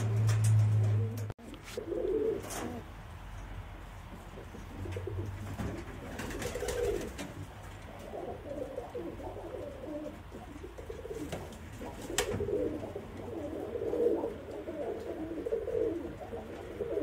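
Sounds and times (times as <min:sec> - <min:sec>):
pigeons cooing: 0:00.0 - 0:03.0, 0:04.2 - 0:17.0.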